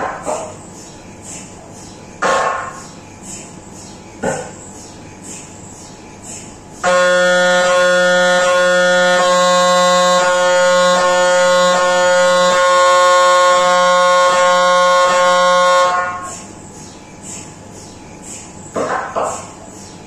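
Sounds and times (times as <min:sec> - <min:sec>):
mri scanner steady tone: 0:00.0 - 0:18.9.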